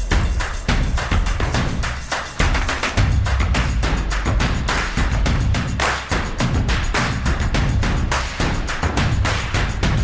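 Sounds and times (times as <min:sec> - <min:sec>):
music with driving drum beat: 0:00.0 - 0:10.0.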